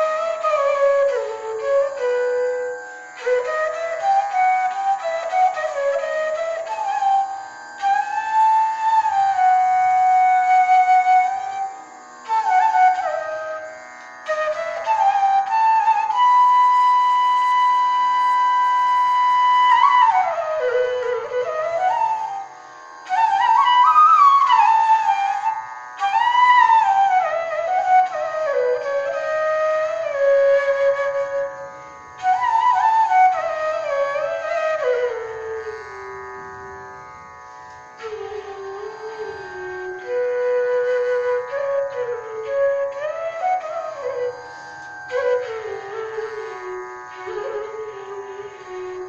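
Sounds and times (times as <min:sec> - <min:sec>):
bamboo flute playing: 0:00.0 - 0:49.0.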